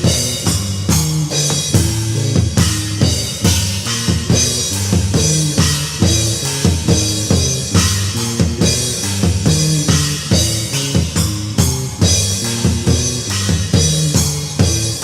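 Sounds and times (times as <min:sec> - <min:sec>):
distorted guitar chords: 0:00.0 - 0:15.0
drum kit beat: 0:00.0 - 0:15.0.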